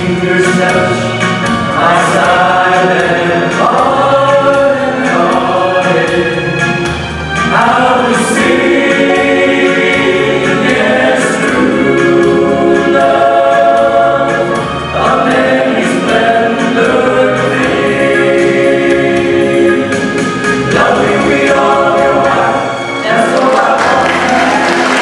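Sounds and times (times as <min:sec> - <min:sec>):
male vocal group singing harmony: 0:00.0 - 0:06.8, 0:07.4 - 0:24.3.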